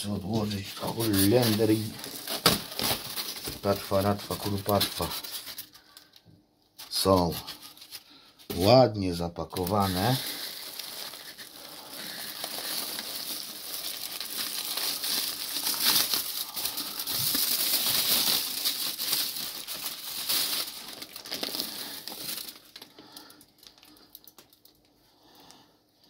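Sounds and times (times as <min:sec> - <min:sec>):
aluminium foil crinkling: 0:00.0 - 0:25.6.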